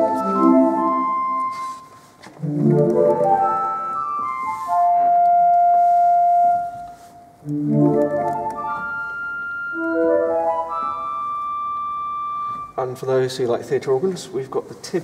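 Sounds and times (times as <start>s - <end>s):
organ flute notes: 0.0s - 13.0s.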